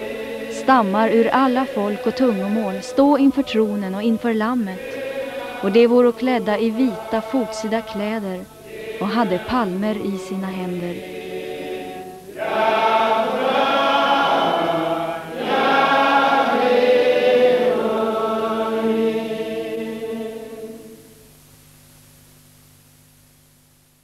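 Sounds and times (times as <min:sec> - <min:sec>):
choir singing held chords: 0:00.0 - 0:21.2
faint hiss: 0:00.0 - 0:24.0.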